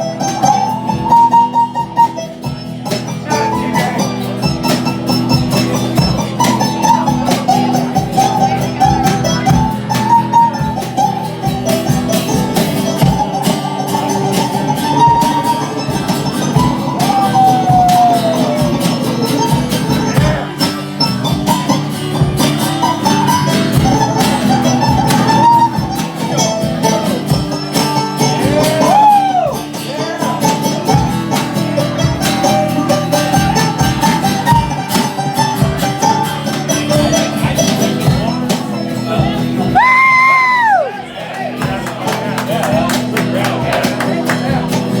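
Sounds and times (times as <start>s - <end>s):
rock band playing: 0.0s - 45.0s
sliding lead guitar line: 0.0s - 45.0s.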